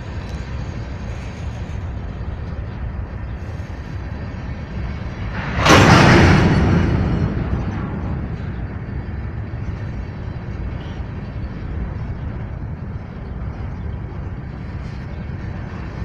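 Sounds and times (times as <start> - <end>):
freight train rumbling past: 0.0 - 16.0
train wheel noise: 0.0 - 16.0.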